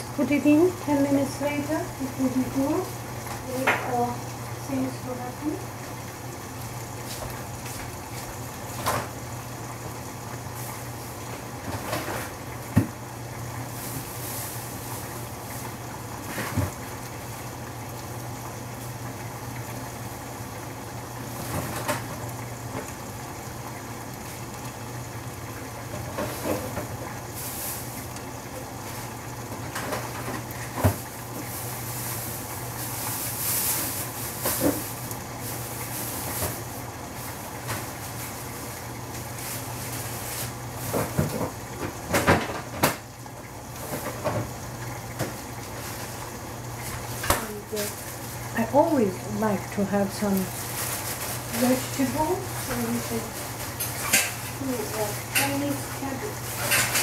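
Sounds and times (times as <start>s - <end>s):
gas burner hissing: 0.0s - 57.0s.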